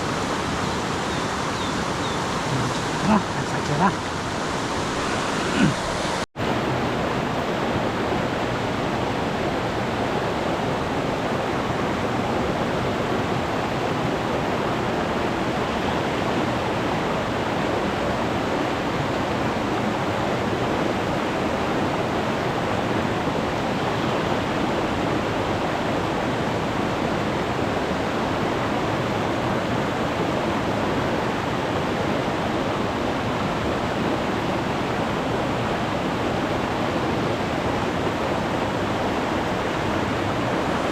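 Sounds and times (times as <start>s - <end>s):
stream rushing water: 0.0s - 40.9s.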